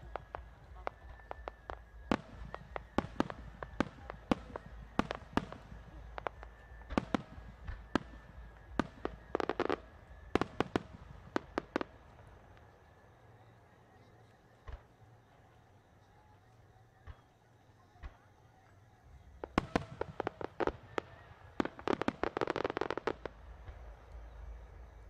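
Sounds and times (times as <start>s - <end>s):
firework crackling: 0.0s - 25.0s.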